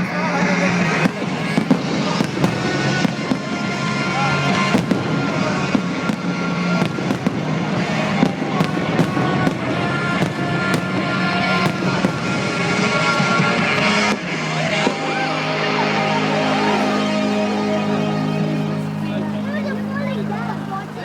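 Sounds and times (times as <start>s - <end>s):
fireworks bangs and crackles: 0.0s - 19.0s
music playing: 0.0s - 21.0s.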